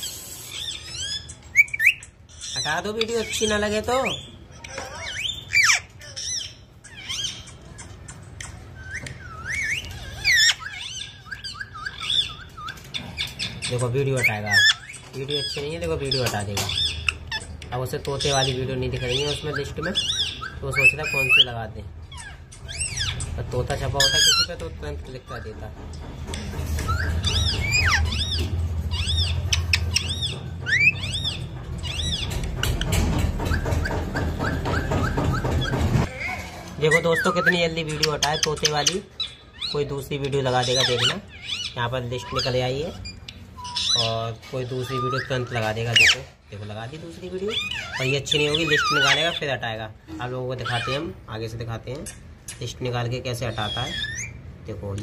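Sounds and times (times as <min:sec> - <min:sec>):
parrot squawking and chirping: 0:00.0 - 0:54.8.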